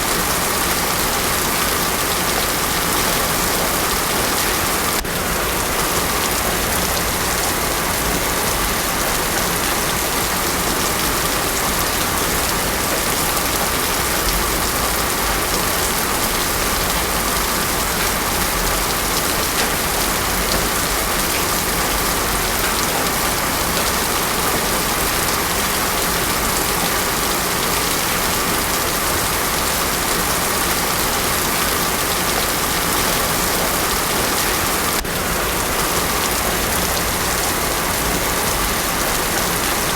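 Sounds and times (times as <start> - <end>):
heavy rain on paved road: 0.0 - 39.9.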